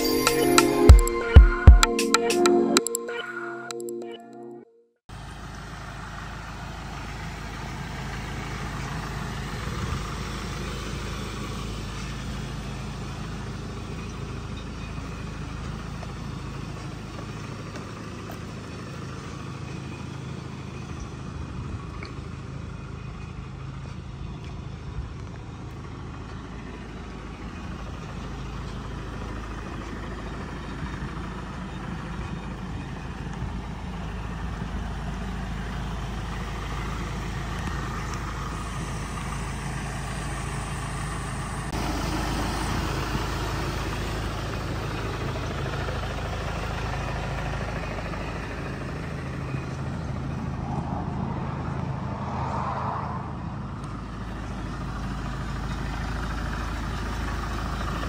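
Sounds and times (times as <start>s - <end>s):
diesel engine idling: 0.0s - 1.9s, 5.1s - 58.0s.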